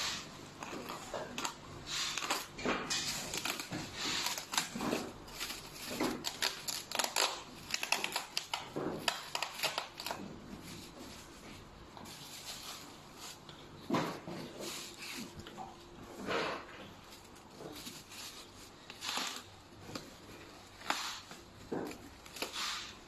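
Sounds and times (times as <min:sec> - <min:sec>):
plastic film crinkling: 0:00.0 - 0:23.0.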